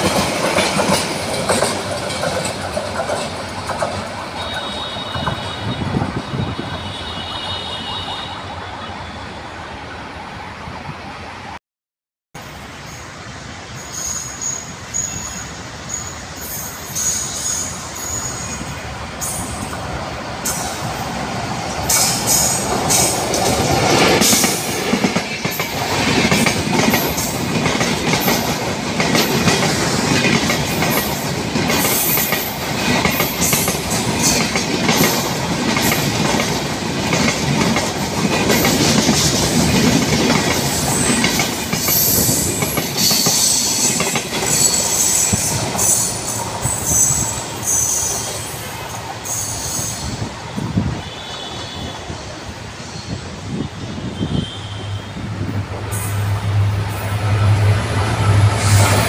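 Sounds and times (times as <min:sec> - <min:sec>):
wheels squealing on rails: 0:00.0 - 0:10.3, 0:12.5 - 0:59.0
train rumbling past: 0:00.0 - 0:11.6, 0:12.4 - 0:59.0.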